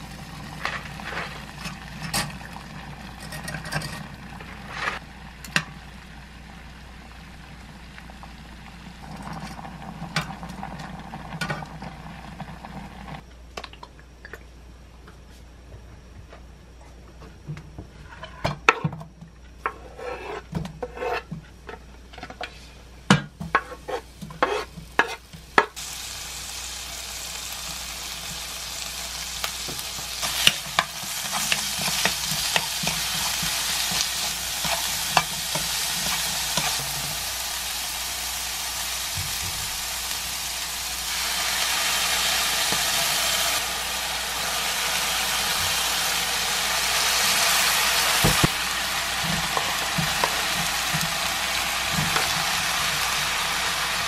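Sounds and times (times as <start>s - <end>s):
food sizzling in a frying pan: 0.0s - 13.2s, 23.5s - 54.0s.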